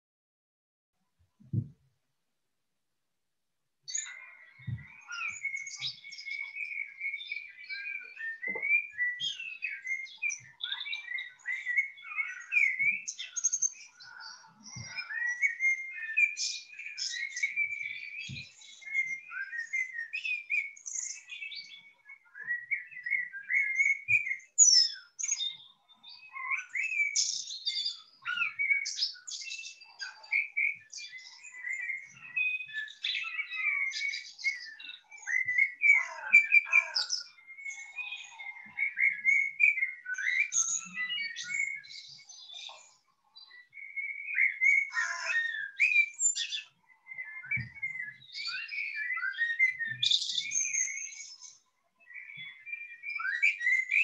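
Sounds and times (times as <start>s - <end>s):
songbirds singing: 3.8s - 54.0s.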